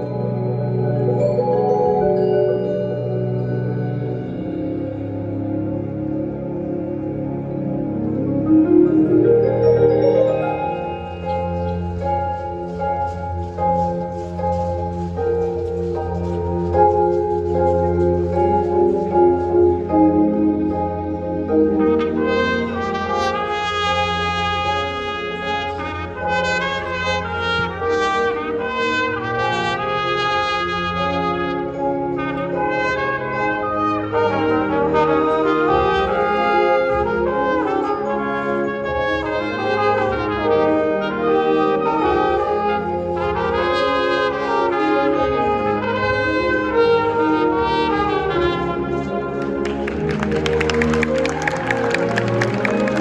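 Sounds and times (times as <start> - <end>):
wind ensemble playing: 0.0 - 53.0.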